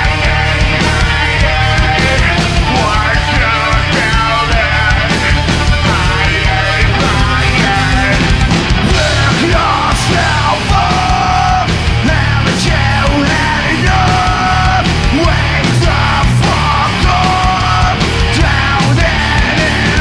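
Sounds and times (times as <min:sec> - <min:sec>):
drums: 0:00.0 - 0:20.0
live rock band playing: 0:00.0 - 0:20.0
man singing into microphone: 0:00.0 - 0:20.0.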